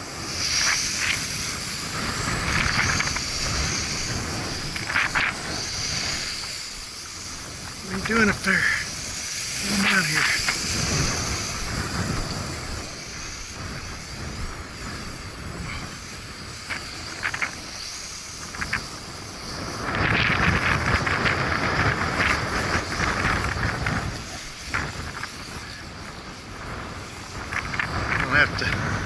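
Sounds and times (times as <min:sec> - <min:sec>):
quadcopter motors whining: 0:00.0 - 0:26.6
wind buffeting microphone: 0:00.0 - 0:29.0.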